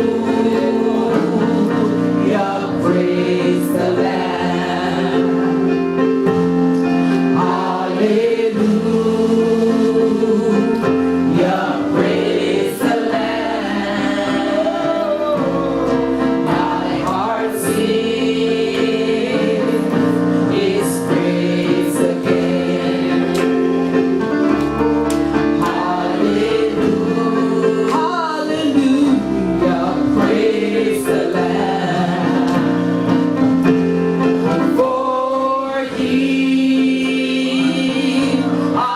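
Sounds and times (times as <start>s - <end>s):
sustained instrumental chords: 0.0s - 38.8s
gospel choir singing: 0.0s - 38.9s.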